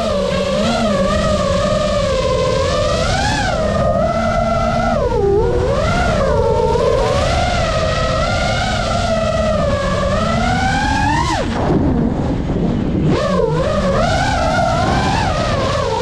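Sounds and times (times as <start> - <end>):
drone motors whining: 0.0 - 16.0
propeller wash rushing: 0.0 - 16.0.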